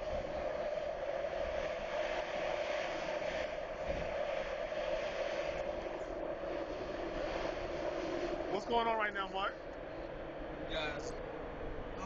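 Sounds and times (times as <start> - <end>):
railcar running interior drone: 0.0 - 12.0.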